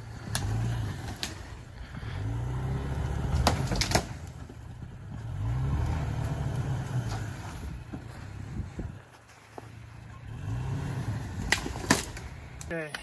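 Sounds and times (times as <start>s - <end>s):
truck engine revving: 0.0s - 12.7s
tyres in deep snow: 0.0s - 13.0s.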